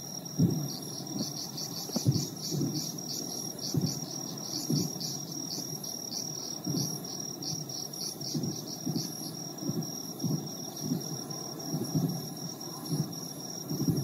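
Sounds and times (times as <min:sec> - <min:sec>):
crickets trilling: 0:00.0 - 0:14.0
distant fireworks thuds: 0:00.2 - 0:14.0.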